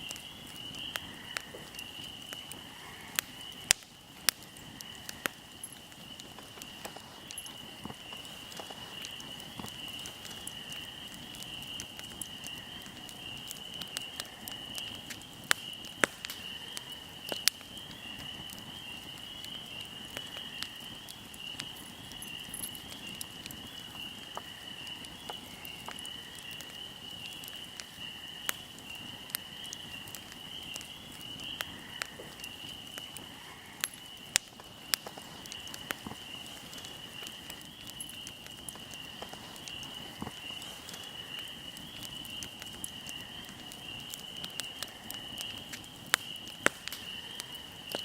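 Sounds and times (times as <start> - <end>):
fire crackling and popping: 0.0 - 48.0
insects trilling: 0.0 - 48.0.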